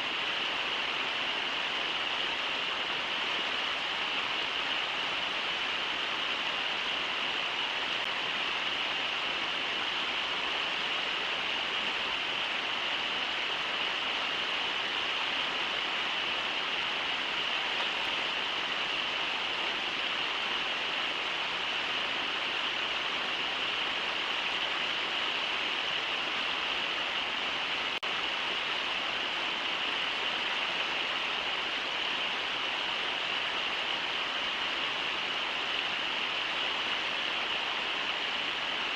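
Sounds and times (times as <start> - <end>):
rushing waterfall: 0.0 - 38.9.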